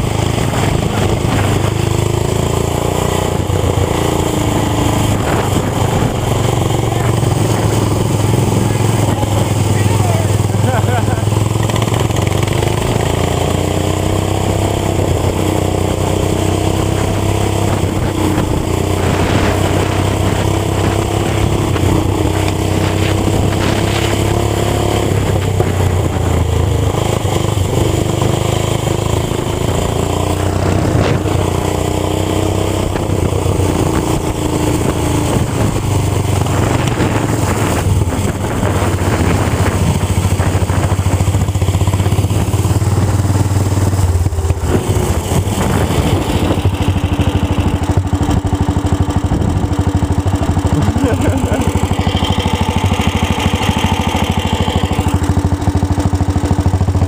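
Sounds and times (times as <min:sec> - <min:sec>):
small gasoline engine running hard: 0:00.0 - 0:57.0.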